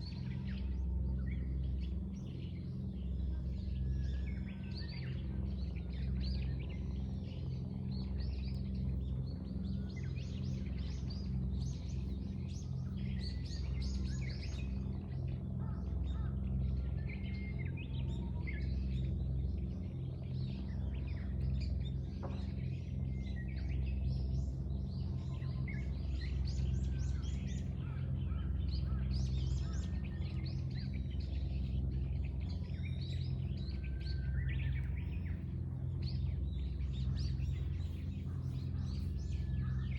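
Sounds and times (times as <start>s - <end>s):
small birds chirping and singing: 0.0s - 39.9s
steady low rumble: 0.0s - 39.9s.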